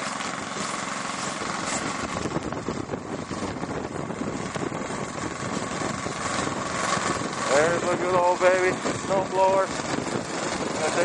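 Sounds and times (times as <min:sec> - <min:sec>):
wind rushing over microphone: 0:00.4 - 0:11.0.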